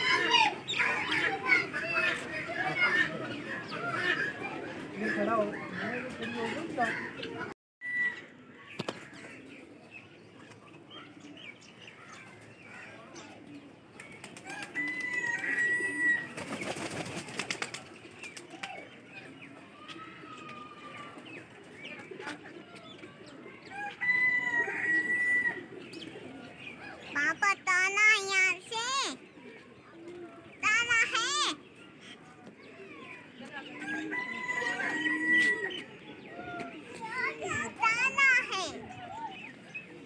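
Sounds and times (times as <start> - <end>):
aviary birds calling: 0.0 - 40.0.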